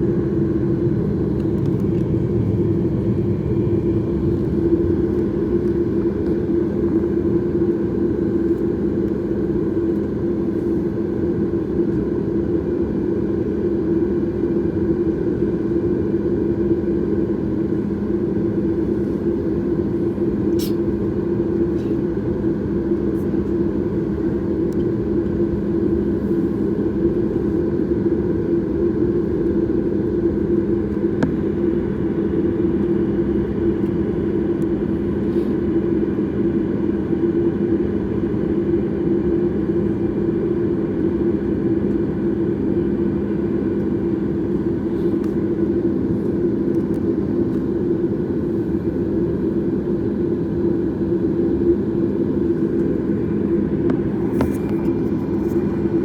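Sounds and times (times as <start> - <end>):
jet engine cabin rumble: 0.0 - 56.0.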